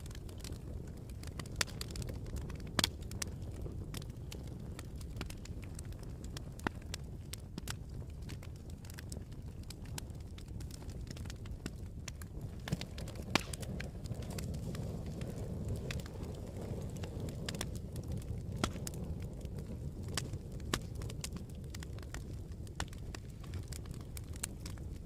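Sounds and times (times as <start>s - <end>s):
campfire flames rumbling: 0.0s - 25.0s
wood crackling and popping: 0.0s - 25.0s.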